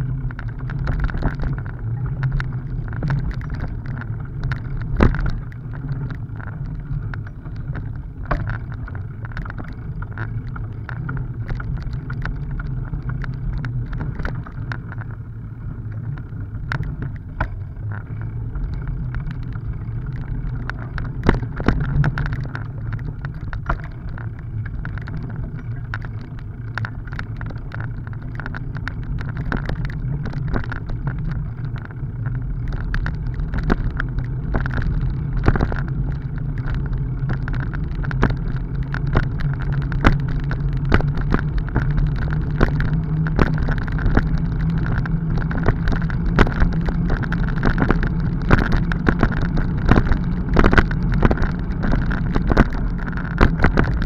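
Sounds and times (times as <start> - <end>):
bicycle tyres rumbling on asphalt: 0.0 - 54.0
bike clicking and rattling: 0.0 - 54.0.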